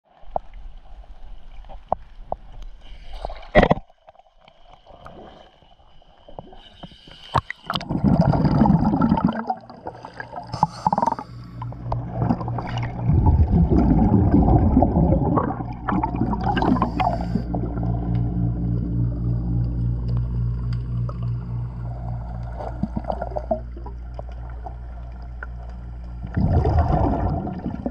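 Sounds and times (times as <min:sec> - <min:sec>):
underwater bubbling and gurgling: 0:00.1 - 0:27.9
low hum: 0:05.5 - 0:27.9.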